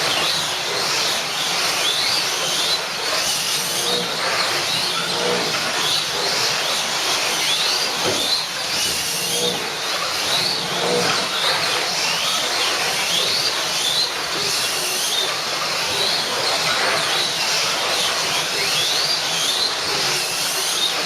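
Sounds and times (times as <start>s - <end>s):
slot car motors whining: 0.0s - 21.0s.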